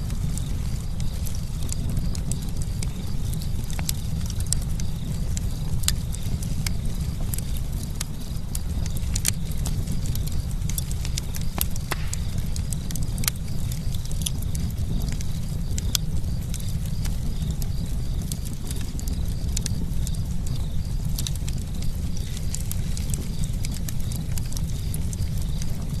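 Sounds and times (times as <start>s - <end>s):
burning wood crackling: 0.0s - 26.0s
low rumble of flames: 0.0s - 26.0s.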